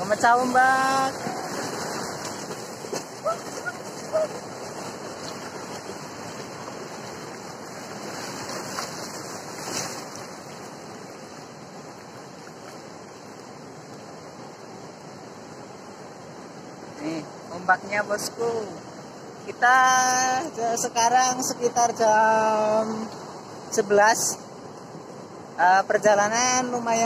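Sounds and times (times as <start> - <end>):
ocean surf breaking on beach: 0.0 - 27.0.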